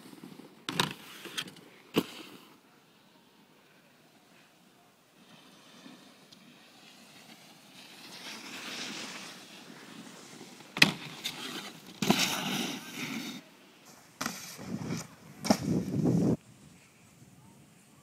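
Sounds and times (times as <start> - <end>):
snowboards scraping over snow: 0.0 - 3.4, 4.0 - 18.0.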